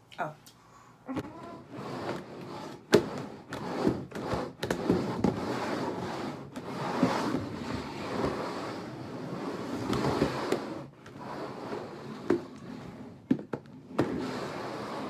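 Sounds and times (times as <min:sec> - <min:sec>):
plastic bowls scraping on table: 0:01.1 - 0:15.0.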